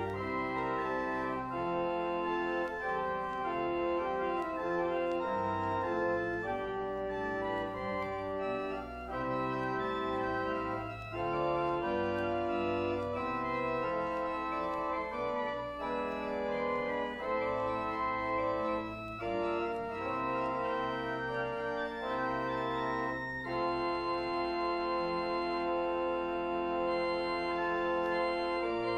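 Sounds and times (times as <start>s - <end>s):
organ playing held chords: 0.0s - 28.9s.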